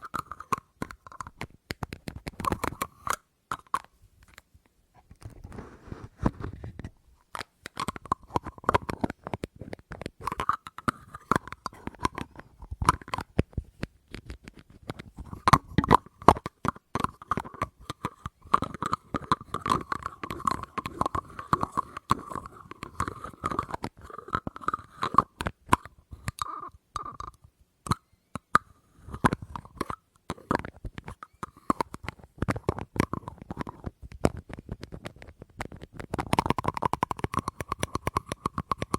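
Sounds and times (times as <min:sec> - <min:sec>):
taps and clicks on hard object: 0:07.4 - 0:38.9.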